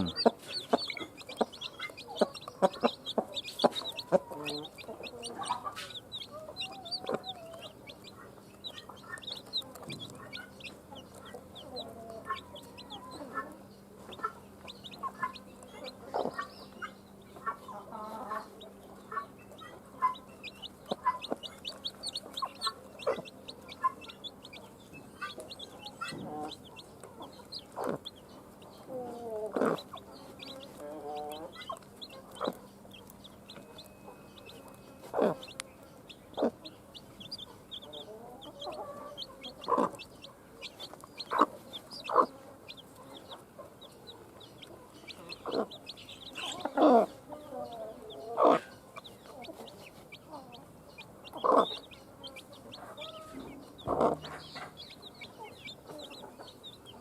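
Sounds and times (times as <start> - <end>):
chicks peeping: 0.0 - 57.0
hen clucking: 0.0 - 57.0.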